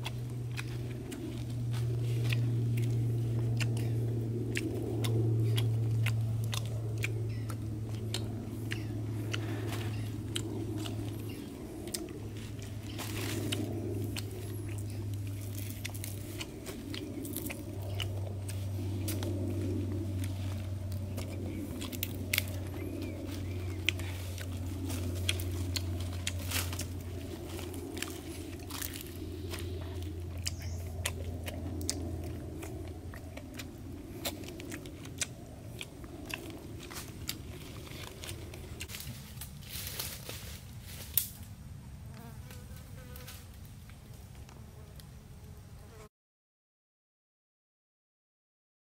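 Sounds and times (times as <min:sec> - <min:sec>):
man chewing and crunching: 0:00.0 - 0:40.4
low hum: 0:00.0 - 0:42.7.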